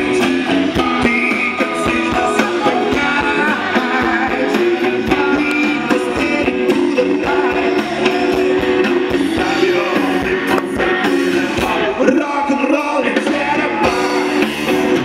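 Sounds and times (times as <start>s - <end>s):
electric guitars: 0.0s - 15.0s
steady drum beat: 0.0s - 15.0s
upright double bass: 0.0s - 15.0s.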